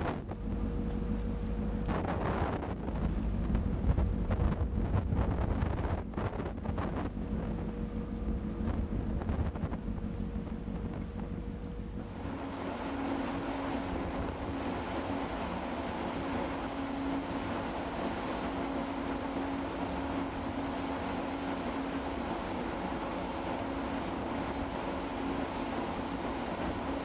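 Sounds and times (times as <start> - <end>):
deep rumble of ship through ice: 0.0 - 27.0
wind buffeting microphone: 0.0 - 27.0.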